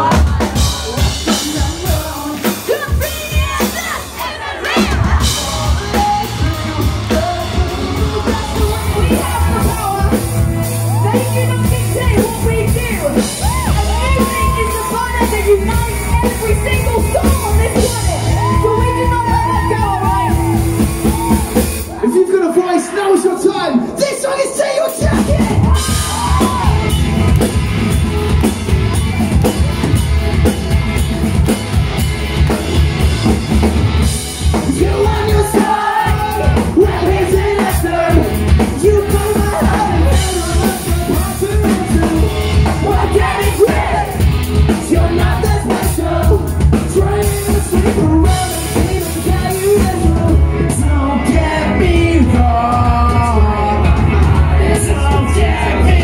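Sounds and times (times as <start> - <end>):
person singing lead vocal: 0.0 - 22.6, 23.2 - 27.0, 34.4 - 56.0
live rock band playing: 0.0 - 56.0.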